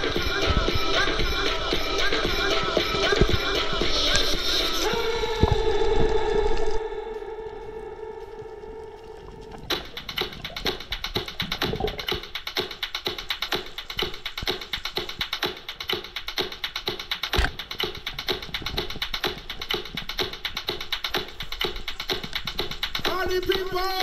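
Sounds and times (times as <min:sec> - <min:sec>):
dance music with fast beat: 0:00.0 - 0:05.8, 0:09.7 - 0:24.0.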